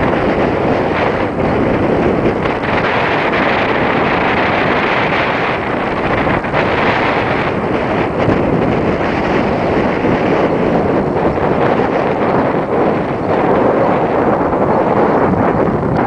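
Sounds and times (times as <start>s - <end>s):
sea surf washing against rocks: 0.0s - 16.0s
wind buffeting microphone: 0.0s - 16.0s.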